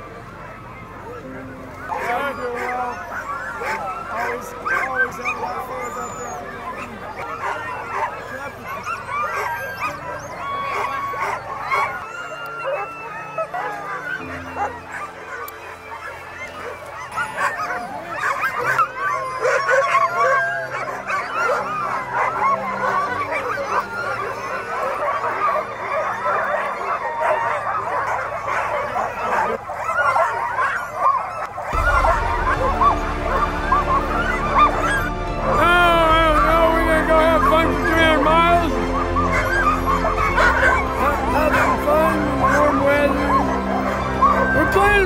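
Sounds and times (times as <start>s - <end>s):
sled dogs barking and yelping: 0.0s - 45.0s.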